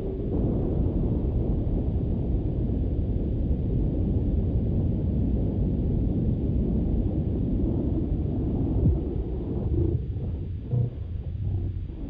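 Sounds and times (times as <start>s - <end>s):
deep rocket rumble: 0.0s - 12.0s.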